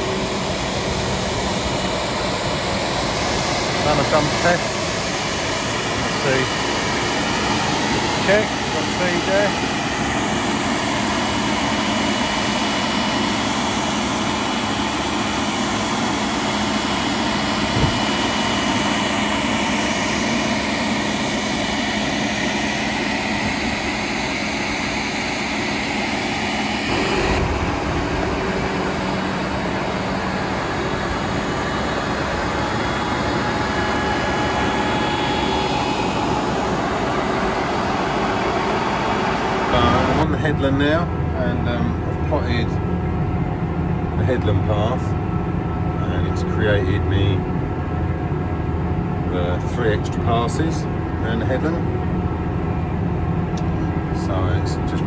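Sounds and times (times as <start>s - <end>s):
diesel tractor engine running: 0.0s - 55.0s
fan-like whine: 0.0s - 55.0s.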